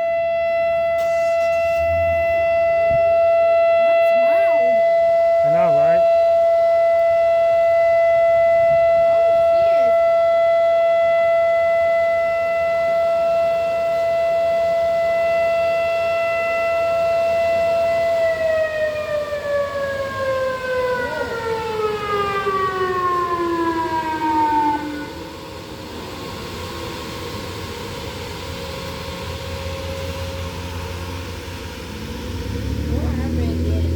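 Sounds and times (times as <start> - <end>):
warning siren winding down: 0.0 - 33.9.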